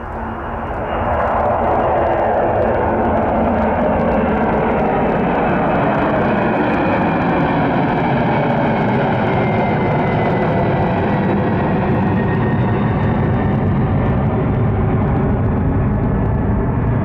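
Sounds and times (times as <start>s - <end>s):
jet engine rush: 0.0s - 17.0s.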